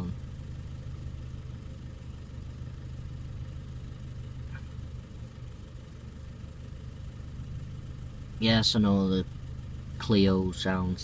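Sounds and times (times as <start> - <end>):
tappety car engine idling: 0.0 - 11.0.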